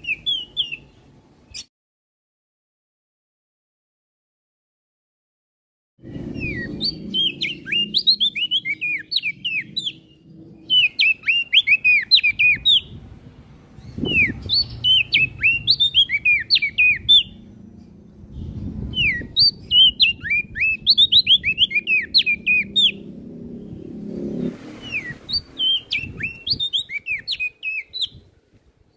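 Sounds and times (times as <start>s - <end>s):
songbird chirping: 0.0s - 1.7s, 6.0s - 28.9s.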